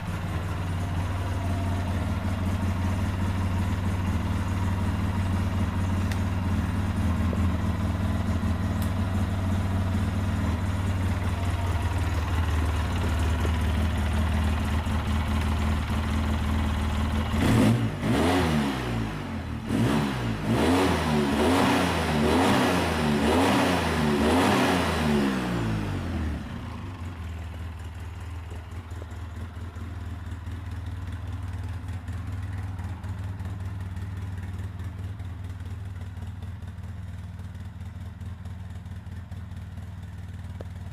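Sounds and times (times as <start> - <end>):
atv engine idling and revving: 0.0 - 40.9.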